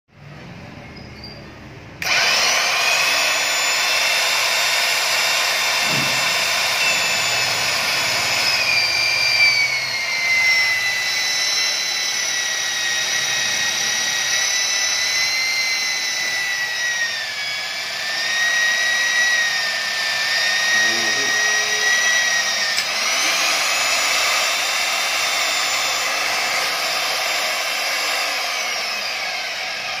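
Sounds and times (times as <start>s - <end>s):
cutter cutting steel plate: 2.0s - 30.0s
magnetic drill motor whining: 2.0s - 30.0s.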